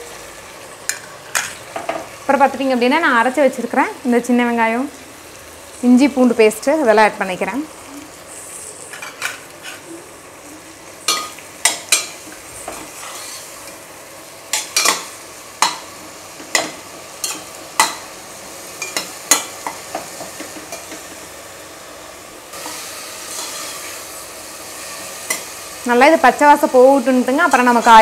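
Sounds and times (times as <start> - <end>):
food sizzling in a pot: 0.0 - 28.0.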